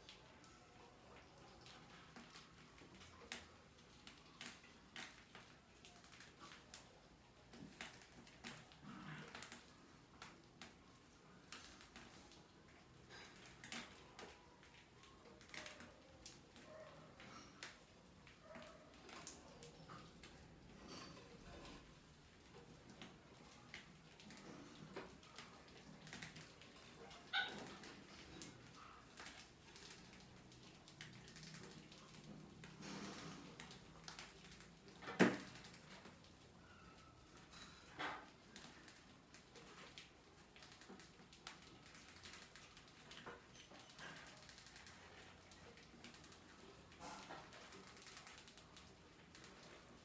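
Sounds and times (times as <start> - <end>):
claws scratching and clicking: 0.1 - 50.0.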